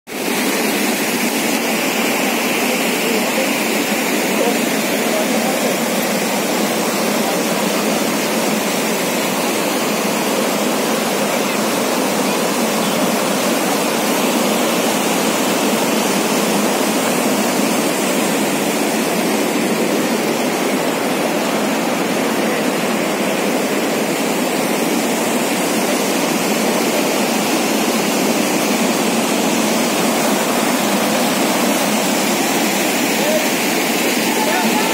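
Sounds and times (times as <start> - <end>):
floodwater rushing: 0.1 - 34.9.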